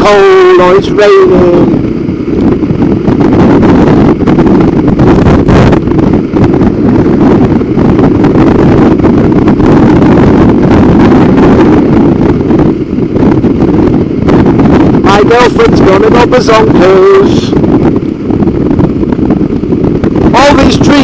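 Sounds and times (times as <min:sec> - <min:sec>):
motorcycle engine running: 0:00.0 - 0:21.0
road noise: 0:00.0 - 0:21.0
wind buffeting microphone: 0:00.0 - 0:21.0.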